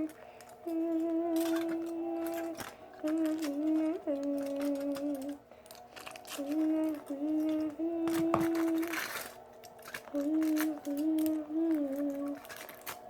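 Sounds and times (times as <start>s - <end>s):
girl humming: 0.0s - 5.5s, 6.2s - 9.3s, 10.0s - 12.6s
foil crinkling: 0.0s - 13.0s.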